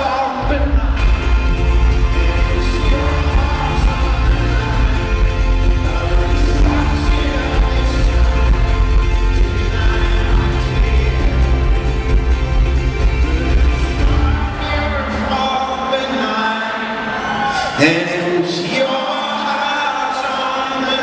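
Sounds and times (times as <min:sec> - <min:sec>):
live folk-rock band playing: 0:00.0 - 0:17.4.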